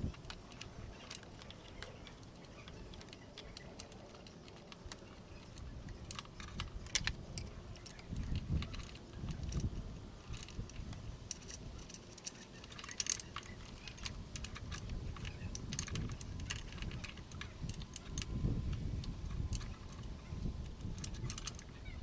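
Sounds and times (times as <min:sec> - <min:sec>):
metallic clicks and rattles: 0:00.0 - 0:22.0.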